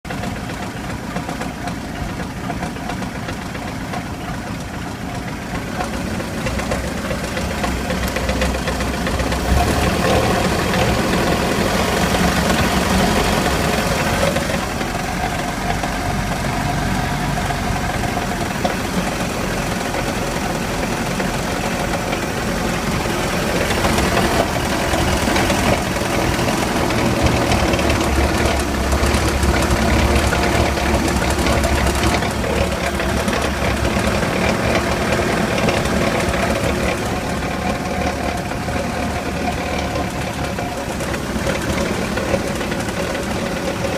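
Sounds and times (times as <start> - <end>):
boat engine running roughly: 0.0 - 43.9.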